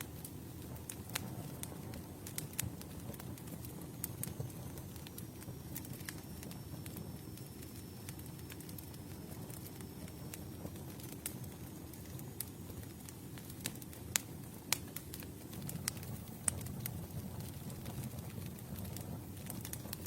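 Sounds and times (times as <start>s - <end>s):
campfire flames rustling: 0.0s - 20.0s
wood crackling and popping: 0.0s - 20.0s.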